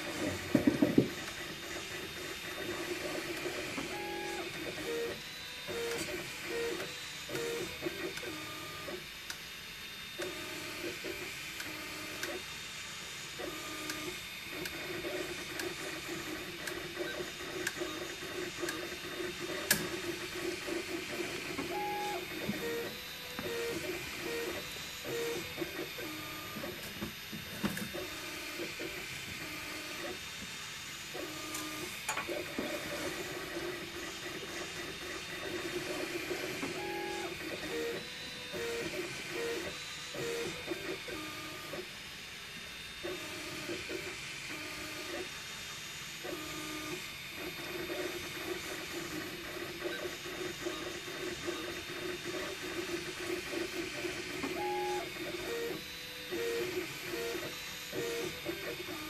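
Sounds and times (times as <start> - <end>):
three d printer stepper motors: 0.0 - 42.0, 42.6 - 59.0.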